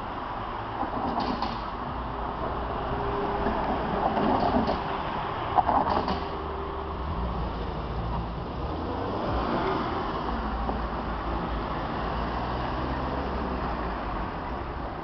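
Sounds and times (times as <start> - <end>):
cars driving past on wet road: 0.0 - 15.0.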